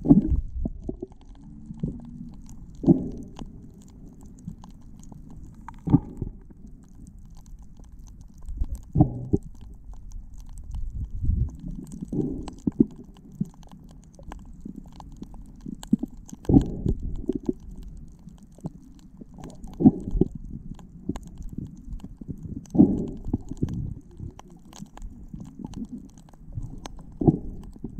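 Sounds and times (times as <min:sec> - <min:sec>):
small underwater clicks and knocks: 0:00.0 - 0:27.9
underwater rumbling water: 0:00.0 - 0:27.9.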